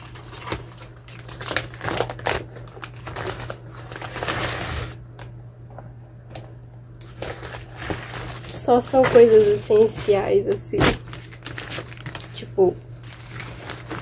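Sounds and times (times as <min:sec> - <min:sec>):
paper bag rustling and crinkling: 0:00.0 - 0:05.0, 0:07.0 - 0:14.0.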